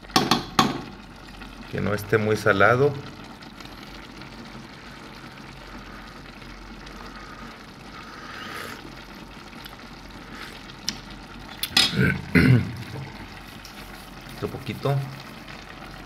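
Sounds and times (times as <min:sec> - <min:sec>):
stew simmering with steady hiss: 0:00.0 - 0:16.0.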